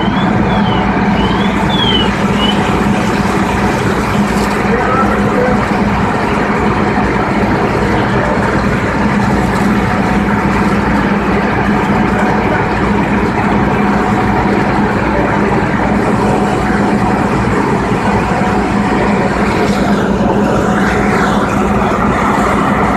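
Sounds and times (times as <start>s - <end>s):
diesel engines droning: 0.0s - 22.9s.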